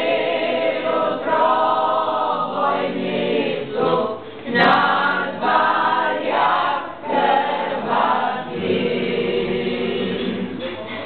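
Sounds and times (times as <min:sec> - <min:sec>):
group singing unaccompanied: 0:00.0 - 0:11.0.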